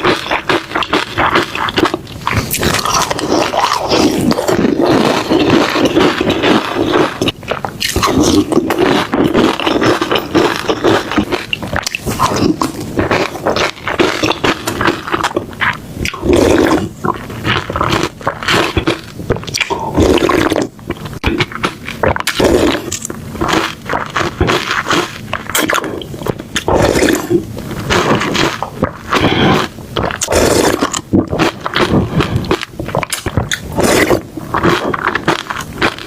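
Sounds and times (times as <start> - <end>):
wet chewing and crunching: 0.0 - 36.0.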